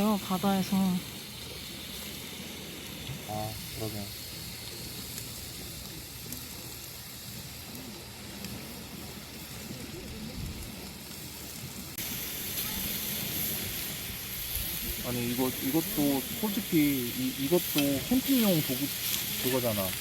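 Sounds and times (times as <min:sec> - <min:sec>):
pork sizzling on a grill: 0:00.0 - 0:20.0.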